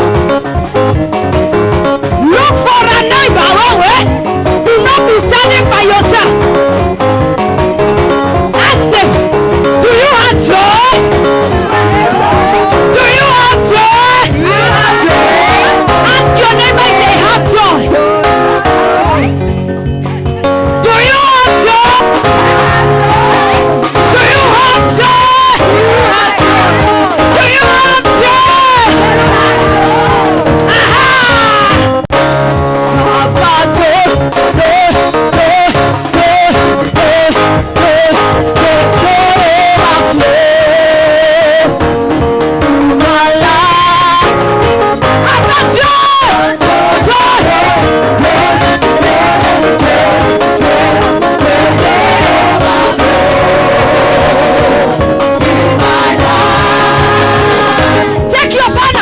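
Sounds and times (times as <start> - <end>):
worship band playing: 0.0 - 59.0
person singing: 8.0 - 19.4, 20.8 - 42.0, 42.6 - 59.0.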